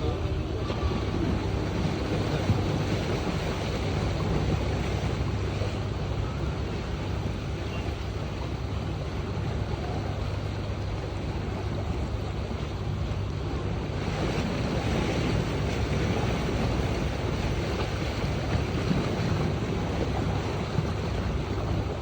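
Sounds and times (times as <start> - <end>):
constant low hum: 0.0 - 22.0
water rushing: 0.0 - 22.0
wind on microphone: 0.0 - 22.0.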